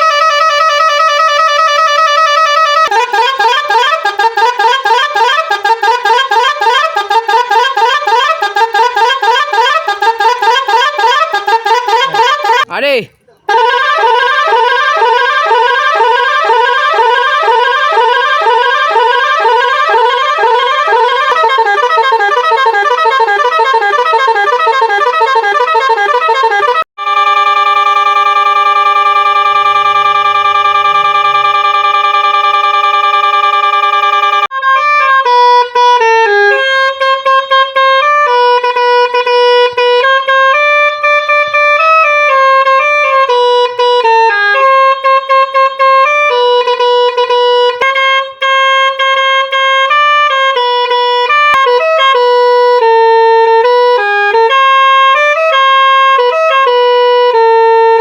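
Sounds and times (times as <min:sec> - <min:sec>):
musical bus horn: 0:00.0 - 0:12.7, 0:13.5 - 0:58.0.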